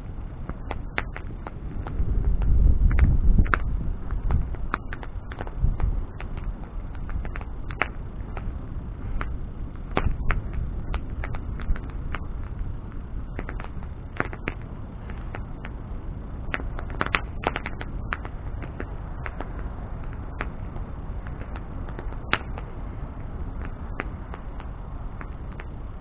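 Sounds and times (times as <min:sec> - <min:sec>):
bonfire crackling and popping: 0:00.0 - 0:26.0
fire rushing: 0:00.0 - 0:26.0.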